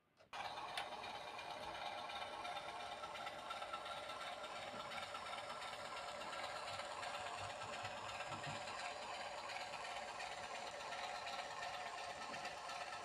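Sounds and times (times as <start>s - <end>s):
model locomotive motor hum: 0.2s - 13.0s.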